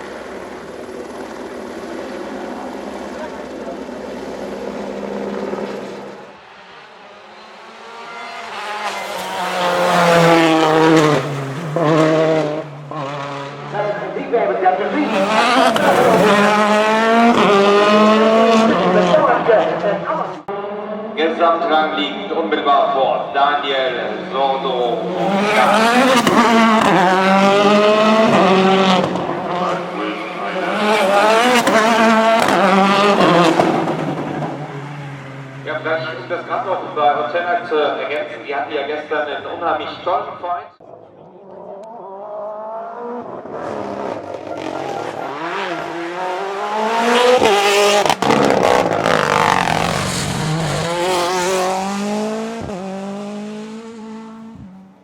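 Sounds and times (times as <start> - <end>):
rally car engine revving: 0.0 - 21.4, 23.8 - 38.2, 41.3 - 55.0.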